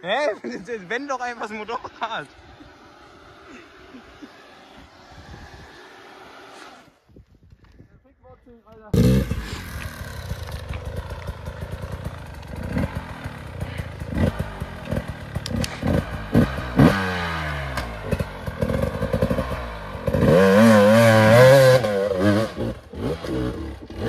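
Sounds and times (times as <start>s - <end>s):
dirt bike engines revving: 0.0s - 7.8s, 8.7s - 24.0s.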